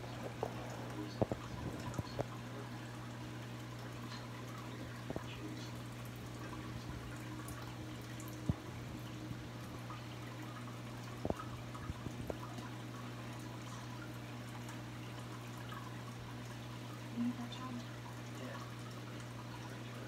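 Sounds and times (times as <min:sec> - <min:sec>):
steady low hum: 0:00.0 - 0:20.0
water trickling and splashing: 0:00.0 - 0:20.0.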